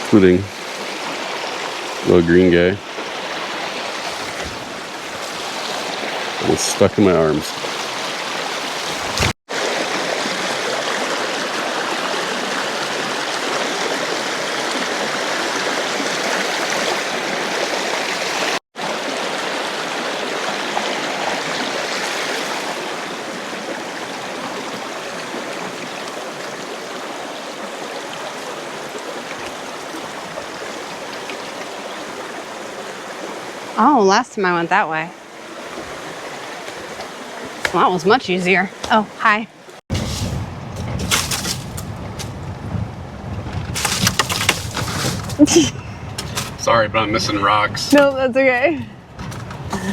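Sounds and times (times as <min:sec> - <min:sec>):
stream water rushing over rocks: 0:00.0 - 0:40.3, 0:43.5 - 0:48.1.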